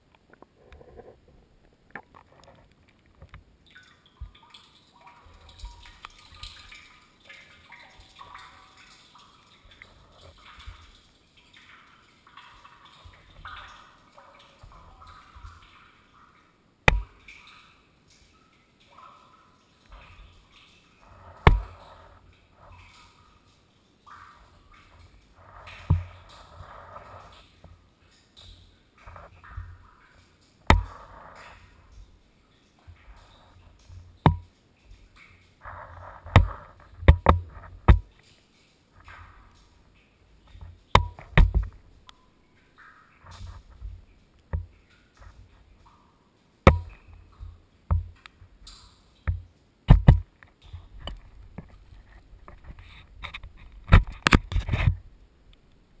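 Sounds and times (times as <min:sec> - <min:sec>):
water dripping in well: 0:01.6 - 0:55.9.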